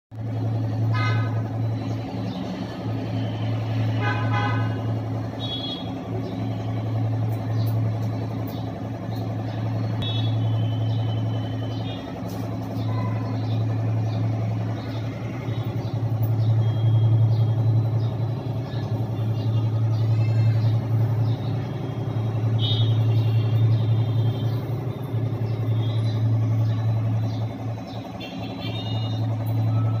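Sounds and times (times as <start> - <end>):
low mechanical hum: 0.1 - 30.0.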